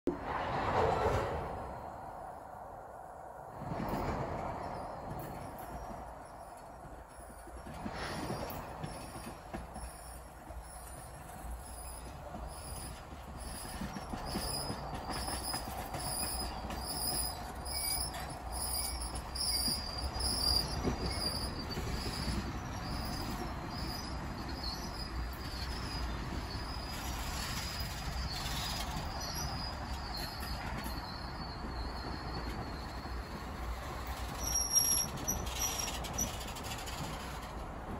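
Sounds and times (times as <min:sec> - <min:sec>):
train wheels rumbling: 0:00.1 - 0:37.9
clickety-clack over rail joints: 0:03.5 - 0:37.9
wheel squeal: 0:03.9 - 0:37.6.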